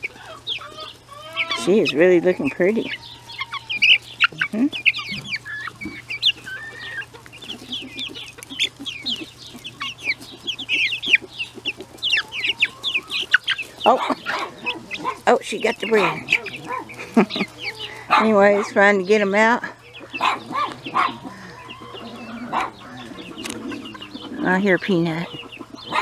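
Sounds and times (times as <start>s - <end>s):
chickens clucking: 0.0s - 26.0s
chicks peeping: 0.0s - 26.0s.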